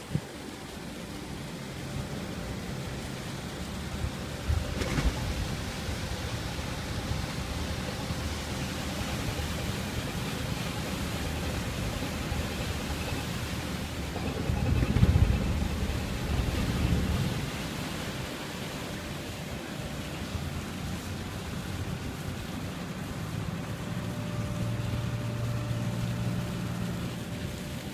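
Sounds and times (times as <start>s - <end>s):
ship machinery rumble: 0.0s - 27.9s
water churning against hull: 0.0s - 27.9s.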